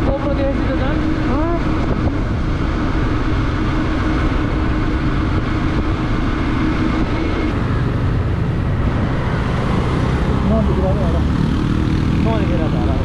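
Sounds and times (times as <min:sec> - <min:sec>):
wind noise on microphone: 0:00.0 - 0:10.5
motorcycle engine running: 0:00.0 - 0:13.0.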